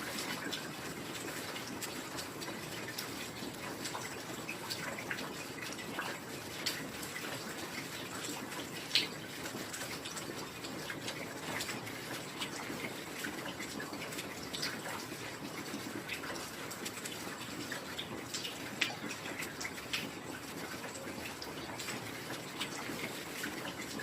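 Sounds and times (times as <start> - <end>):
water drips and drops: 0.0 - 24.0.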